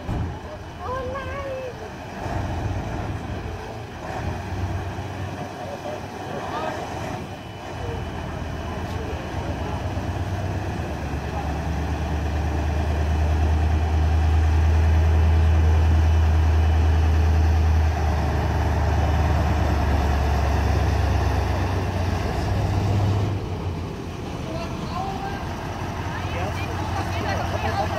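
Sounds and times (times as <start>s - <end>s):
diesel engine rumbling: 0.0s - 27.9s.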